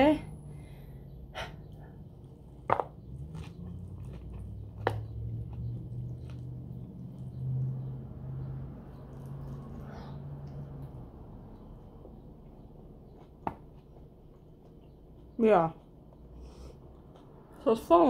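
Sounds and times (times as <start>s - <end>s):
crunching and wet chewing: 1.6s - 17.6s.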